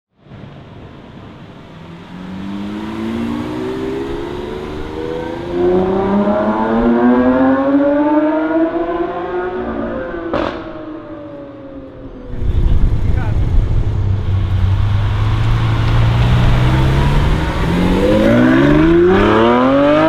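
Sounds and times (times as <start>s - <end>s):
car engine accelerating: 0.2s - 20.0s.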